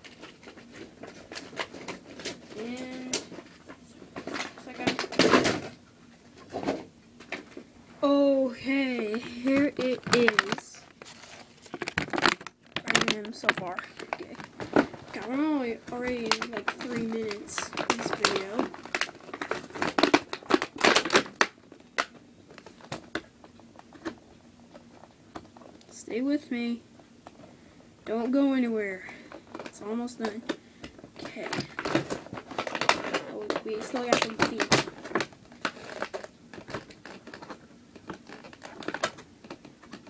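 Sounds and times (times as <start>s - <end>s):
plastic packaging crinkling: 0.0s - 5.7s, 7.3s - 25.9s, 29.2s - 40.0s.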